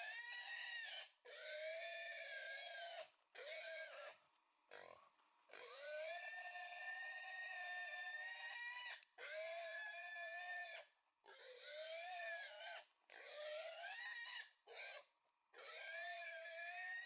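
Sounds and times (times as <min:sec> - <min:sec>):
wild boar squealing: 0:00.0 - 0:17.0.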